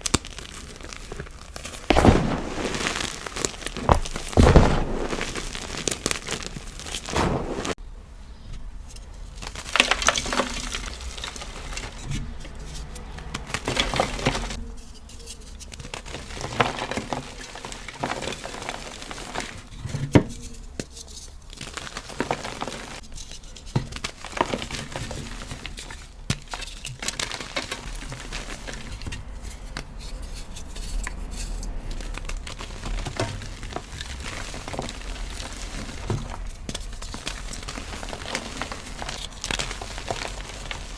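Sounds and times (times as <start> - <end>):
chalk cubes being crushed: 0.0 - 7.2, 9.4 - 12.1, 12.8 - 14.6, 15.5 - 19.7, 20.4 - 40.9.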